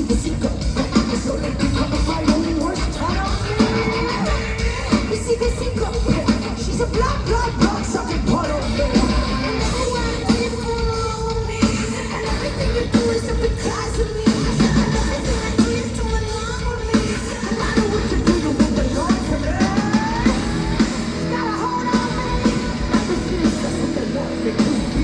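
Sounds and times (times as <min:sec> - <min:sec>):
heavy metal band: 0:00.0 - 0:25.0
person singing: 0:00.0 - 0:25.0.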